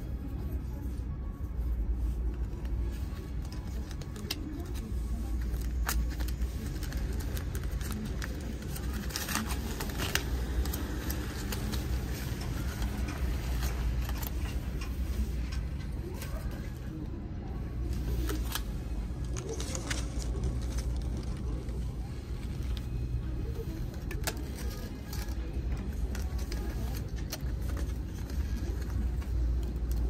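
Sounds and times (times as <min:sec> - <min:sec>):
aluminium foil crinkling: 0:02.0 - 0:17.1, 0:17.8 - 0:30.0.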